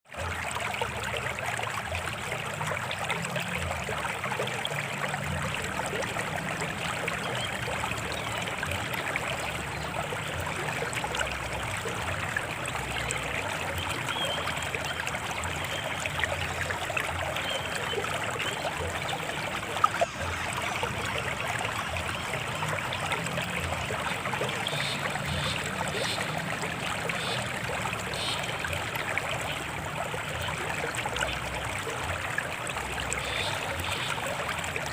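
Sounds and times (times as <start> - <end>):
stream trickling over stones: 0.0 - 34.9.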